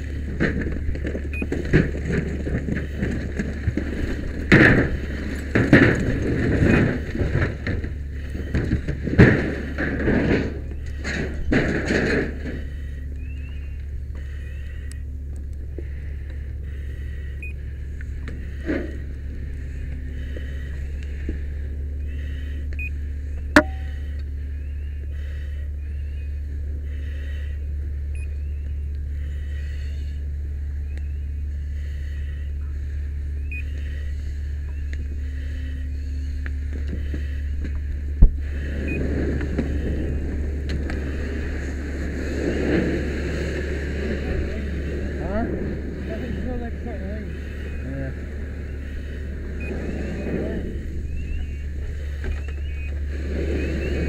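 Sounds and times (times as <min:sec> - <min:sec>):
pump engine drone: 0:00.0 - 0:54.0.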